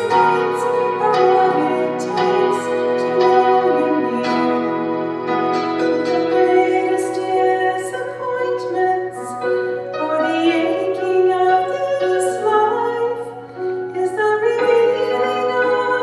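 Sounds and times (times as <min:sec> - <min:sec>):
piano accompaniment: 0:00.0 - 0:16.0
woman singing: 0:00.0 - 0:16.0.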